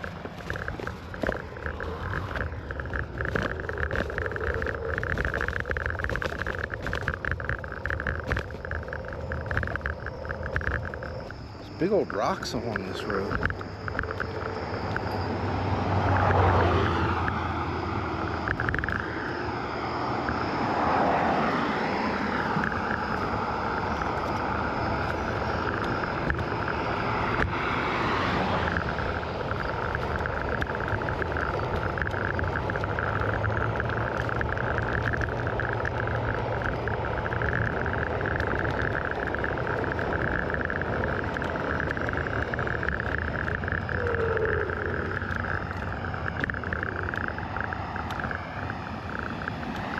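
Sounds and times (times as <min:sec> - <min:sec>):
scooter motor whine: 0:00.0 - 0:49.9
wind rush on microphone: 0:00.0 - 0:49.9.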